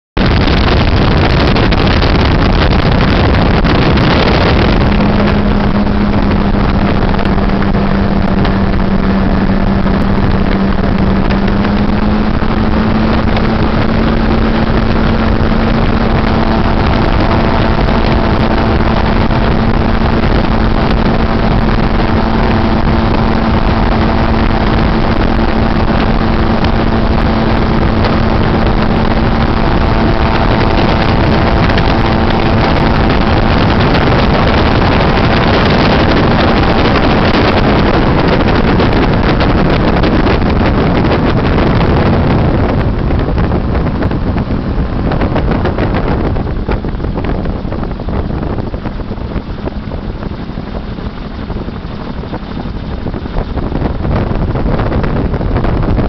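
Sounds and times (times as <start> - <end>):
gyrocopter engine and propeller: 0.0 - 56.0
rush of air: 0.2 - 56.0.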